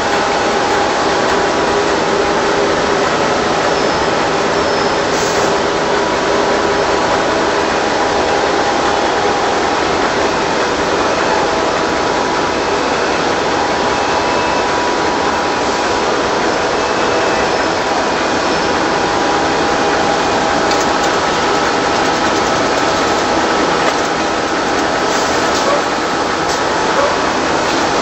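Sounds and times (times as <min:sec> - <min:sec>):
production line machinery running: 0:00.0 - 0:28.0.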